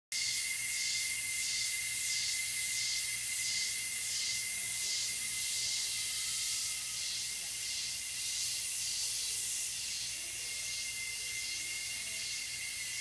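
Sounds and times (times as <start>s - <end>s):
cicadas and insects buzzing: 0.1s - 13.0s
high-pitched whine: 0.1s - 13.0s.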